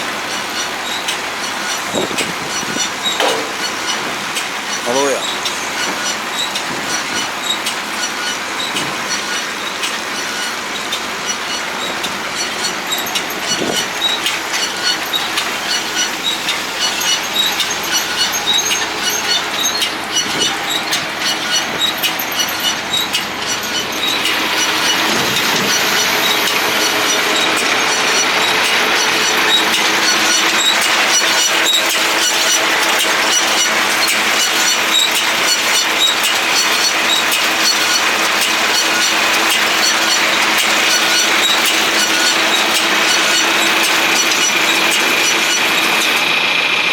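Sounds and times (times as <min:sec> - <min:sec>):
baler clattering rattle: 0:00.3 - 0:46.3.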